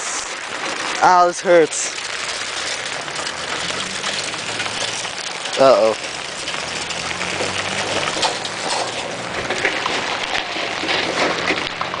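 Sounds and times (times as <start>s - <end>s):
hail and rain pelting: 0.0s - 12.0s.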